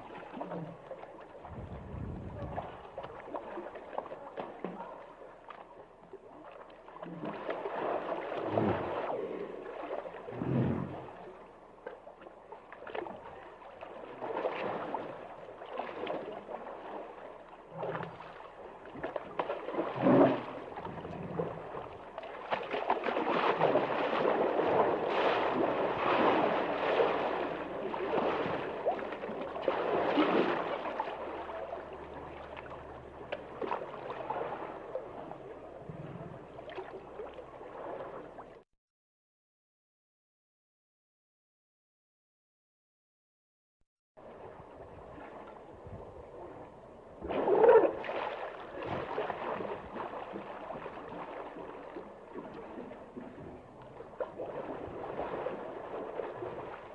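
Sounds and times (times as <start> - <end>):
water sloshing and gurgling: 0.0 - 38.7, 44.2 - 56.9.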